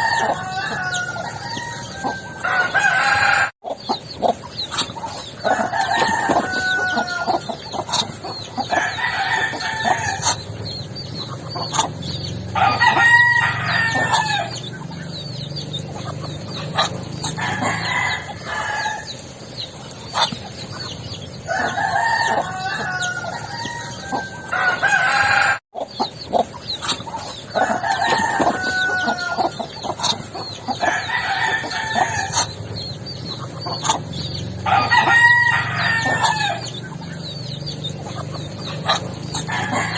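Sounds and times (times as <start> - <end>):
roosters crowing: 0.0 - 39.9
small birds chirping: 0.0 - 39.9.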